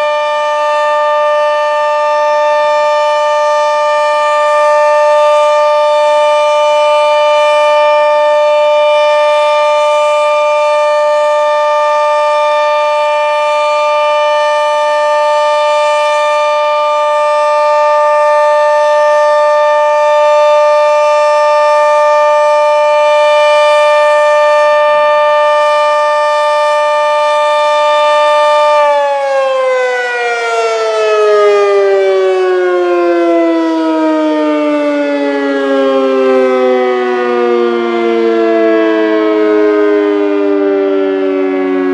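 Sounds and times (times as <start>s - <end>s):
dual-tone warning siren: 0.0s - 41.9s.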